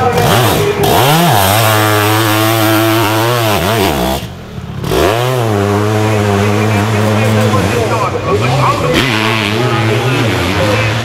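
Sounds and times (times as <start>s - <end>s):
motorcycle engine revving hard: 0.0s - 11.0s.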